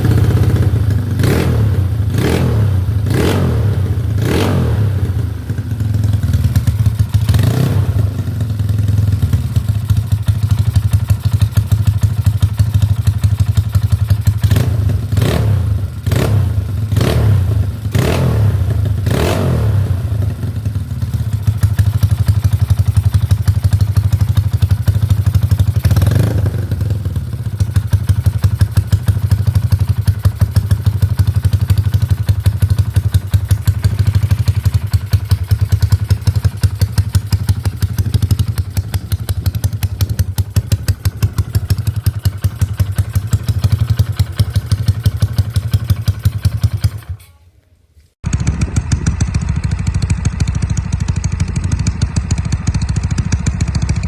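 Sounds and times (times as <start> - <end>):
scooter engine idling and revving: 0.0 - 47.3, 48.1 - 54.0.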